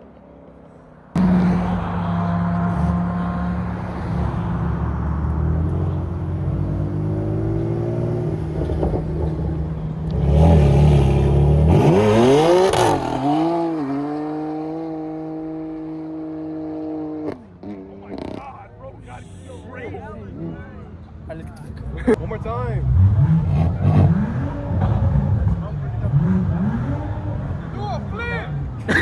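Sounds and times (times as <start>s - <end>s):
car engine revving: 1.1s - 18.6s, 21.7s - 29.0s.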